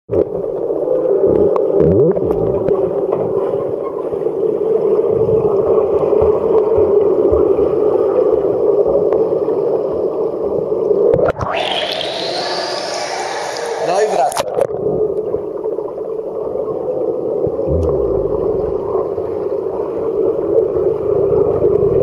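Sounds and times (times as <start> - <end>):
muffled underwater churning: 0.1 - 22.0.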